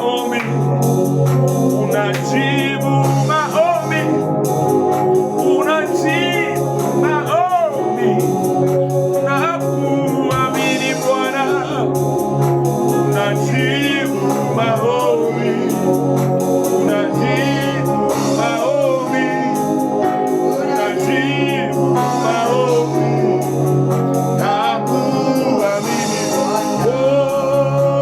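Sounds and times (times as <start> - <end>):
person singing gospel: 0.0 - 28.0
steady percussion beat: 0.0 - 28.0
sustained organ chords: 0.0 - 28.0.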